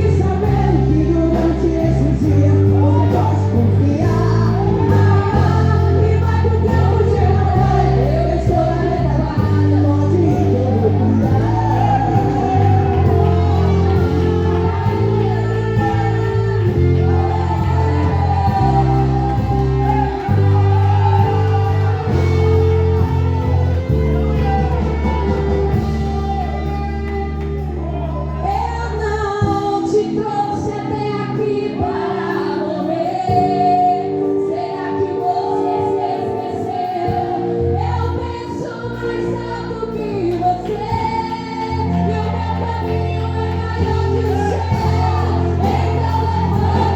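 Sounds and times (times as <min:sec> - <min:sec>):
band playing: 0:00.0 - 0:46.9.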